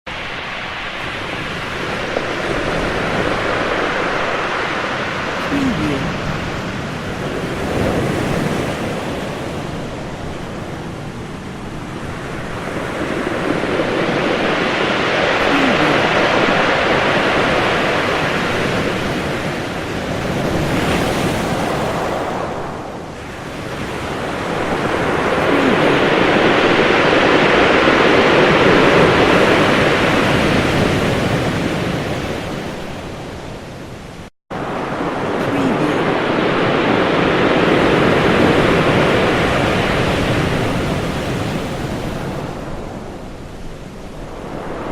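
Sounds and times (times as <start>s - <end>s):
ocean waves breaking on shore: 0.1s - 44.9s.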